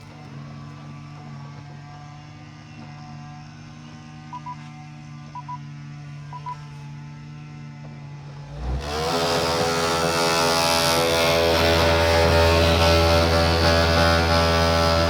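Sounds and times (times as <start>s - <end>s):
mower motor hum: 0.0s - 15.0s.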